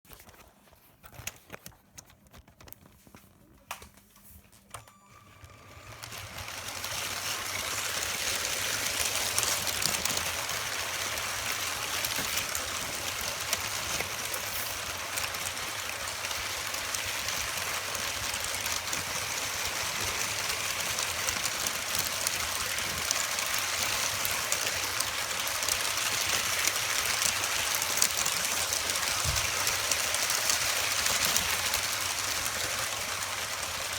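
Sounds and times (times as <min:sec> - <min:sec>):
toy train motor whirring: 0:04.9 - 0:33.9.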